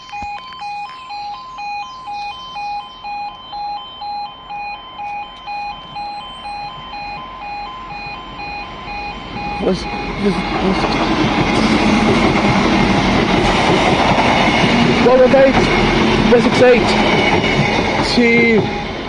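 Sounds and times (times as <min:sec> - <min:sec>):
level crossing alarm pulses: 0:00.0 - 0:19.0.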